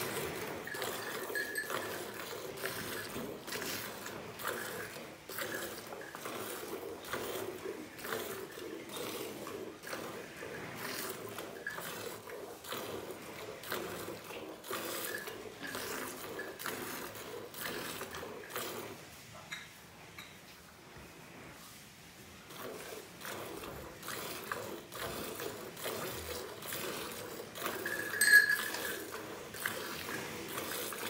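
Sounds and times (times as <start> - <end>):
milk squirting into steel bucket: 0.0 - 19.0, 22.5 - 31.0.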